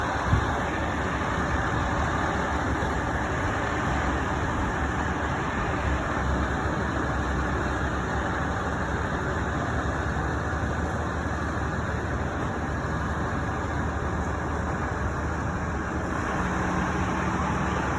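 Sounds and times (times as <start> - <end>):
crane engine rumbling: 0.0 - 17.9.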